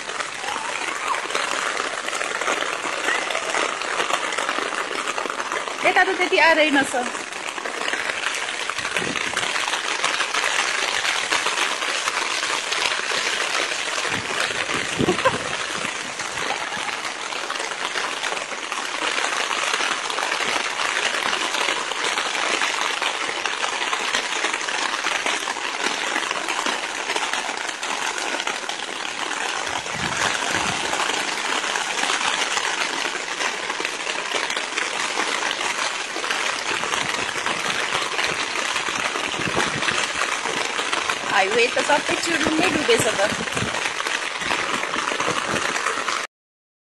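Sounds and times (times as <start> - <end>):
floodwater rushing: 0.0 - 46.3.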